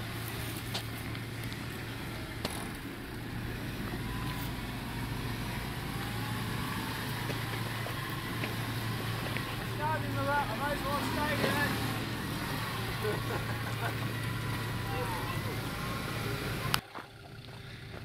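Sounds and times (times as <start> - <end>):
car engine at low revs: 0.0 - 18.0.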